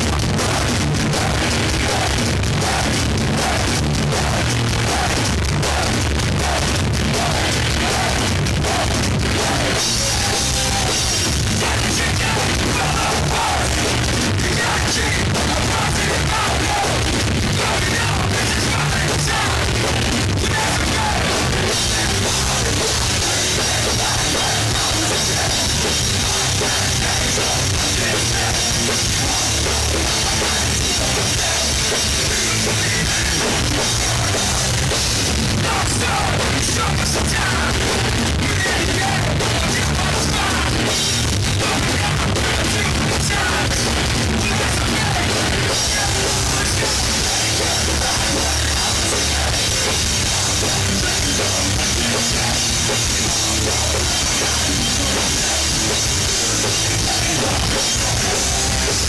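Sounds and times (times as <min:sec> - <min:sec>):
punk band playing live: 0:00.0 - 0:59.0.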